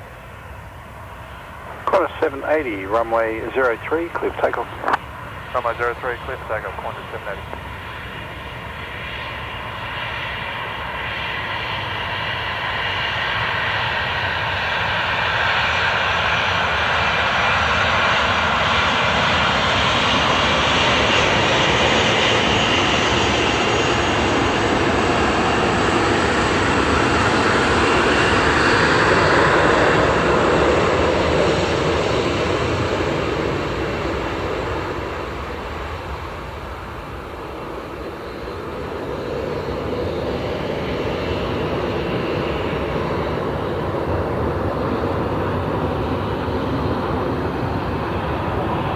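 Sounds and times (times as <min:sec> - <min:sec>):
jet engines roaring at takeoff: 0:00.0 - 0:48.9.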